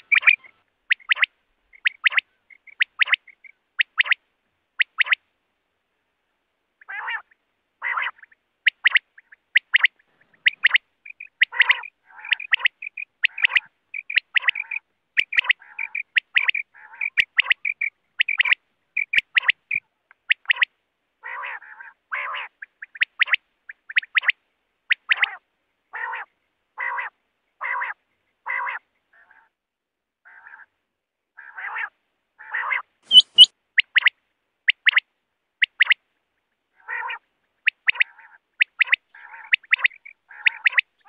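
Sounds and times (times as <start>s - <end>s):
quail calling: 0.0s - 4.2s, 4.8s - 5.2s, 6.8s - 29.5s, 30.2s - 30.8s, 31.4s - 35.0s, 35.6s - 36.0s, 36.7s - 41.0s.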